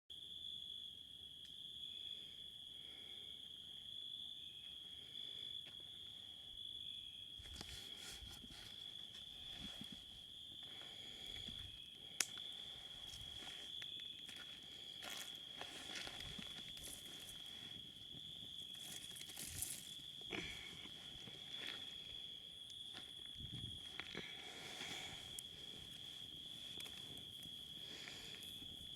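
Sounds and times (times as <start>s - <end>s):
high insect trill: 0.1s - 28.9s.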